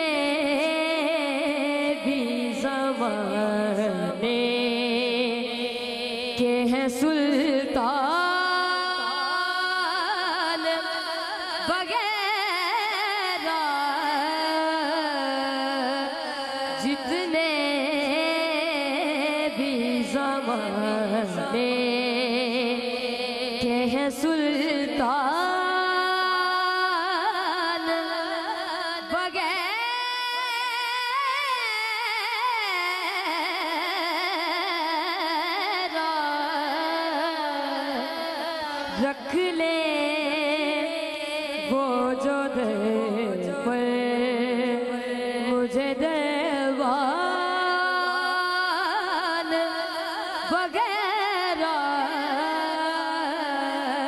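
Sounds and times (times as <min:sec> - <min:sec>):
boy singing into a microphone: 0:00.0 - 0:54.0.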